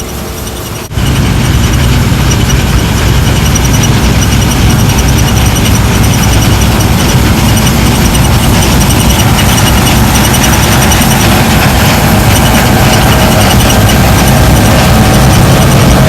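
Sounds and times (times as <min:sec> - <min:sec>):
deep engine rumble: 0:00.0 - 0:16.0
pulsing high-pitched whine: 0:00.0 - 0:16.0.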